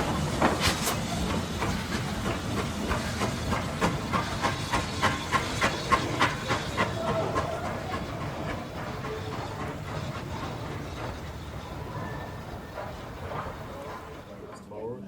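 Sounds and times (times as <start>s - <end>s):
locomotive exhaust chuffs: 0.0s - 14.5s
steam locomotive hissing steam: 0.0s - 14.5s.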